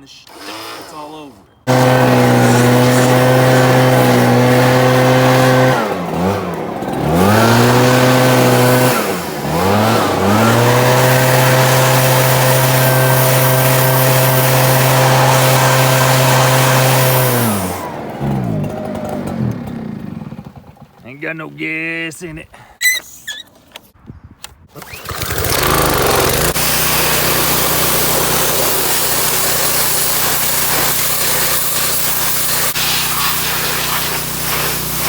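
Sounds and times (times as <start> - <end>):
leaf blower engine running: 1.7 - 21.0, 24.8 - 35.0.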